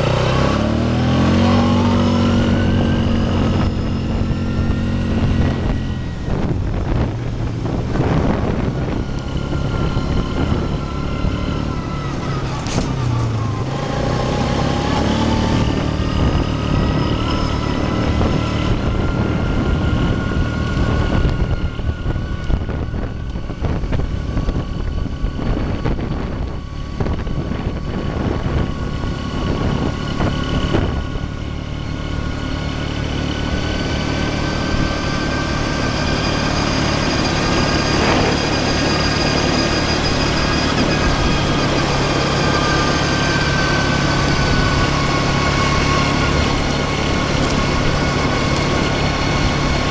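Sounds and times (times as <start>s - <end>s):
off-road vehicle engine running: 0.0s - 49.9s.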